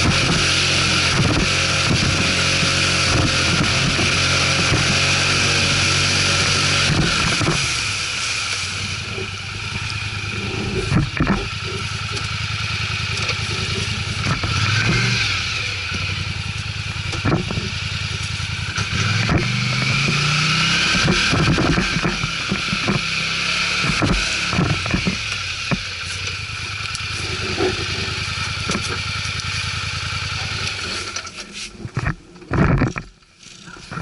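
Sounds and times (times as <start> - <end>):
knocks and rattles: 0.0 - 7.8, 9.0 - 29.4, 30.3 - 34.0
atv engine revving: 0.0 - 34.0.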